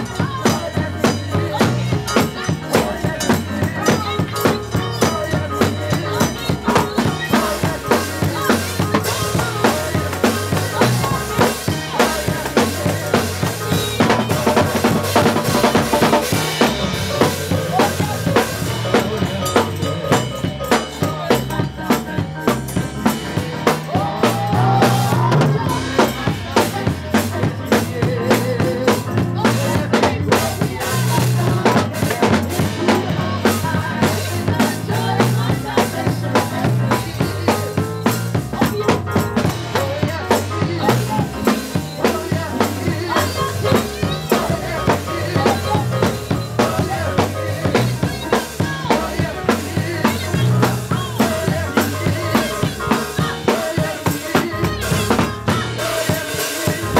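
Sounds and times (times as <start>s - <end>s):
drum kit beat: 0.0s - 56.9s
keyboard: 0.0s - 56.9s
tambourine: 0.0s - 56.9s.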